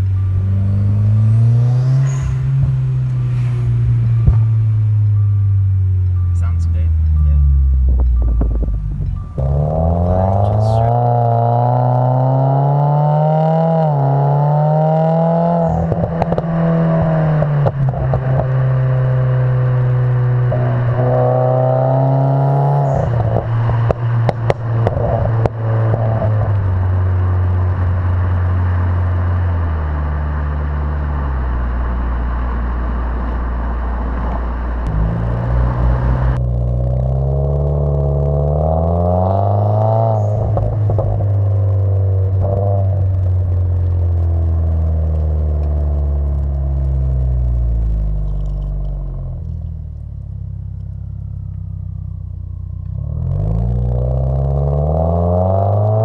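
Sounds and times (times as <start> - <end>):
car engine revving: 0.0 - 56.0
exhaust crackles: 0.0 - 56.0.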